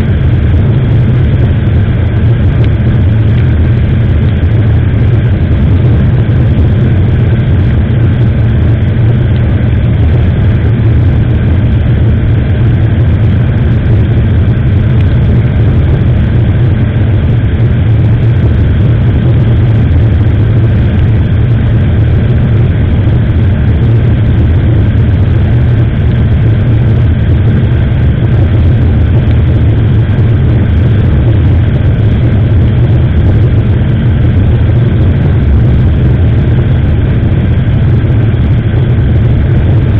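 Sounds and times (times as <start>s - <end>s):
loud wind rush: 0.0s - 39.9s
motorcycle engine running: 0.0s - 39.9s.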